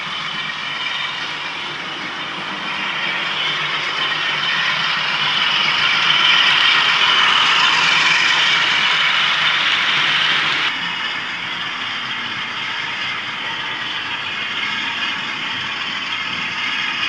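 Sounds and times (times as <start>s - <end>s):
model train diesel engine sound: 0.0s - 17.0s
model train running: 0.0s - 17.0s.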